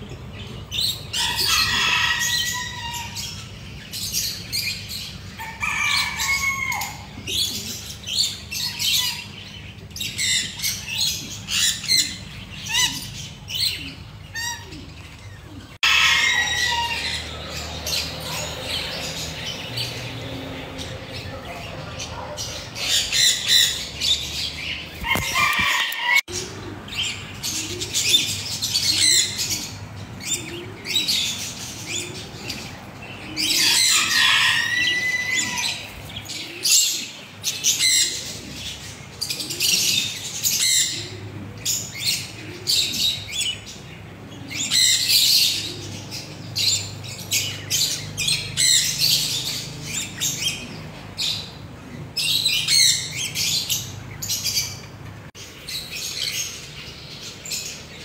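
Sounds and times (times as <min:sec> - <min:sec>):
budgerigars warbling and chattering: 0:00.0 - 0:58.0.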